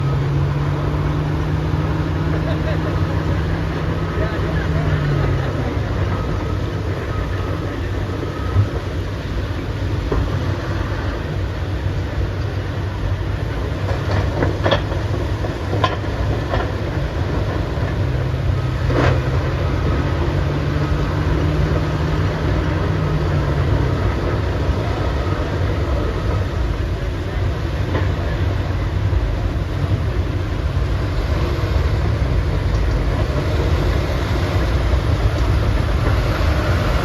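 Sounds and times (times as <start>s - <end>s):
diesel machinery rumbling: 0.0s - 37.0s.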